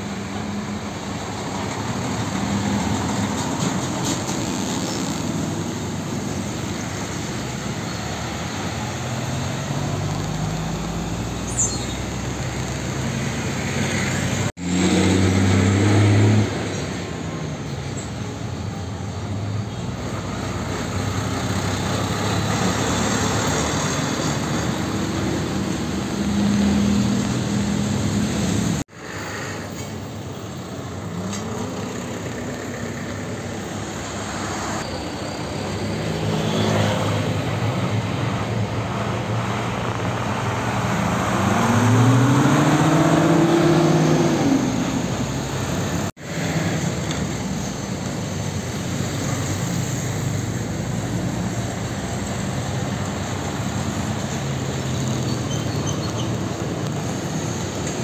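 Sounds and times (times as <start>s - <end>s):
heavy trucks revving past: 0.0s - 17.6s, 19.8s - 58.0s
road traffic: 0.0s - 58.0s.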